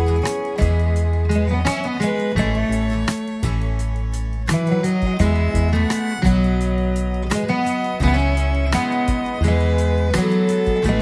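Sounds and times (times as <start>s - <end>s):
plucked strings over bass: 0.0s - 11.0s.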